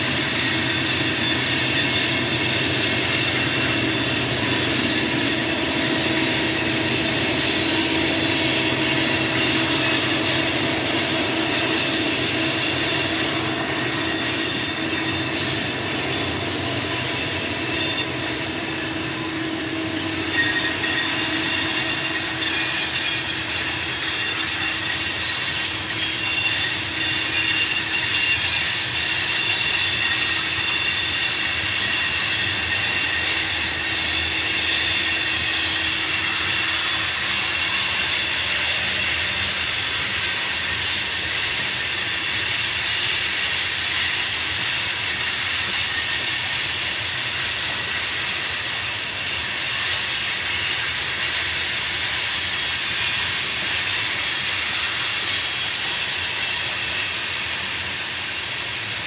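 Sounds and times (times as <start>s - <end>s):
rumble of wheels on rail: 0.0s - 59.0s
wheels squealing on curve: 0.0s - 59.0s.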